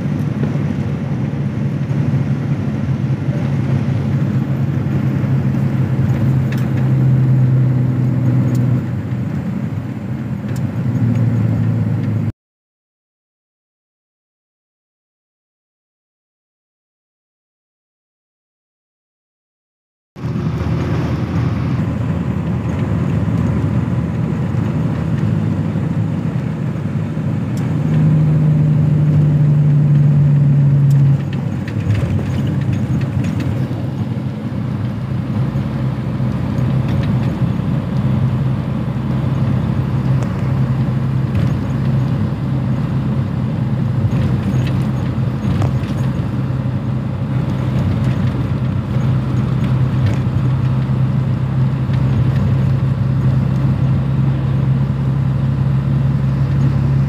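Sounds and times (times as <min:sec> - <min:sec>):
road noise: 0:00.0 - 0:12.3, 0:20.2 - 0:57.0
vehicle engine drone: 0:00.0 - 0:12.3, 0:20.2 - 0:57.0.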